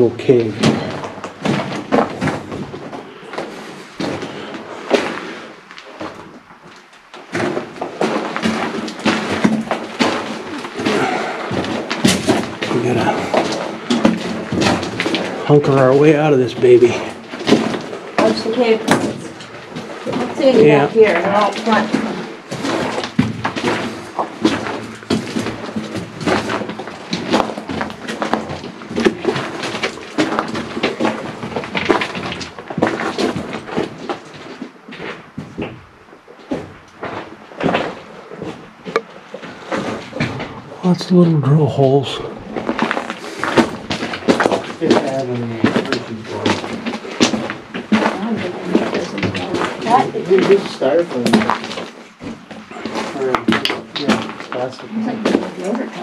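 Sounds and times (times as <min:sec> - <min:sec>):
knocks and thuds on rock floor: 0:00.0 - 0:05.2, 0:07.2 - 0:40.8, 0:42.4 - 0:55.7.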